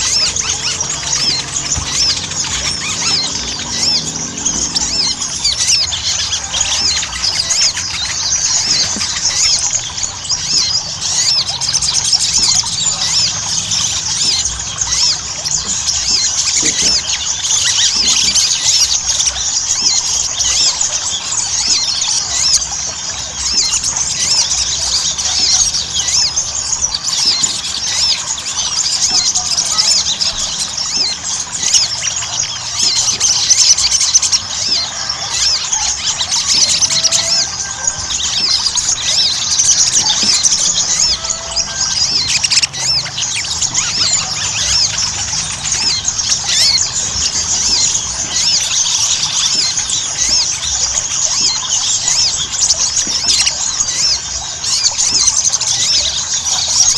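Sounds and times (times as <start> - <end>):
sunbird singing chirps and trills: 0.0 - 56.9.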